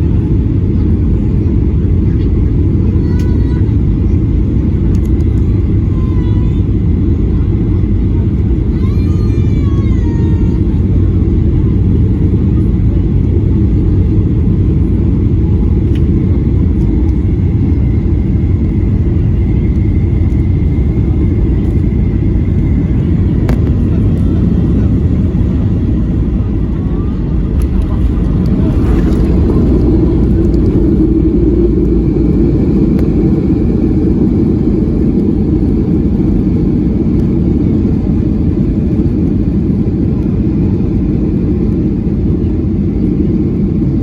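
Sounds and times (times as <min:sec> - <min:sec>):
jet engine rumble in cabin: 0:00.0 - 0:44.0.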